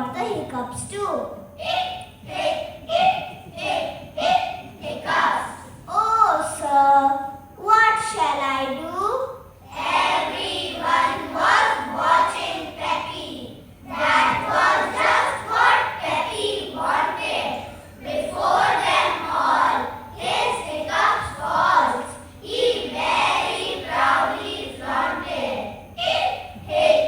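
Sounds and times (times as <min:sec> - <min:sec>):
children reciting in unison: 0:01.6 - 0:05.9, 0:09.6 - 0:27.0.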